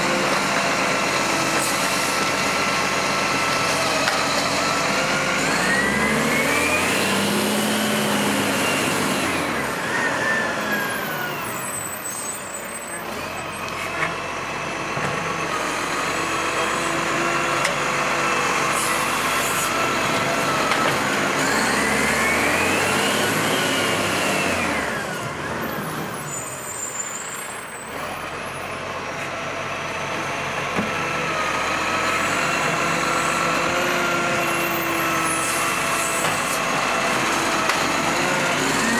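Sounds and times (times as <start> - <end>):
garbage truck engine revving: 0.0 - 11.8, 14.2 - 26.7, 29.7 - 38.9.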